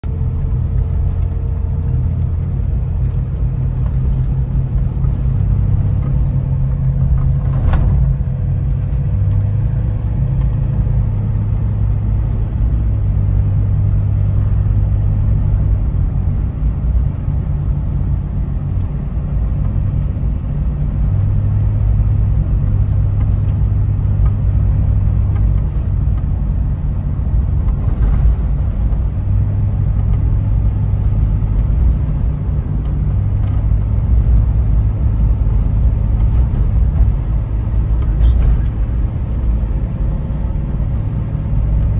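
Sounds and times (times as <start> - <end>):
car engine drone in cabin: 0.0 - 41.9.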